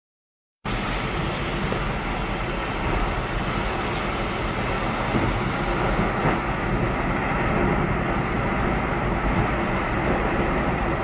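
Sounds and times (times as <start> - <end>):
strong storm wind: 0.7 - 11.0
wind buffeting microphone: 0.8 - 11.0.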